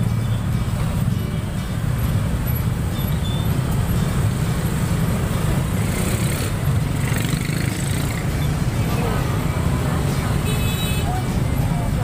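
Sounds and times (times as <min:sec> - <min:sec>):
engines in slow traffic: 0:00.0 - 0:12.0.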